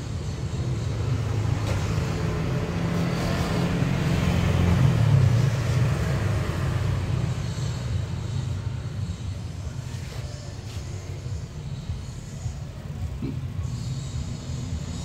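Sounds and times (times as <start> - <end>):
traffic noise: 0.0 - 15.0
vehicle engine rumble passing: 0.0 - 15.0.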